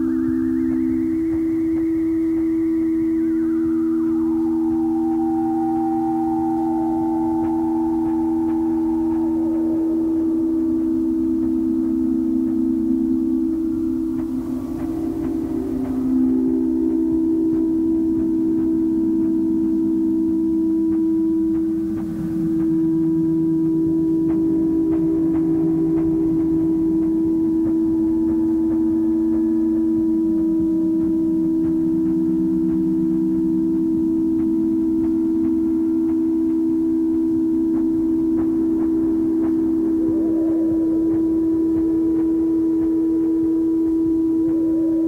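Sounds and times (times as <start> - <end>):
dark ambient drone music: 0.0 - 45.0
wavering low tones: 0.0 - 45.0.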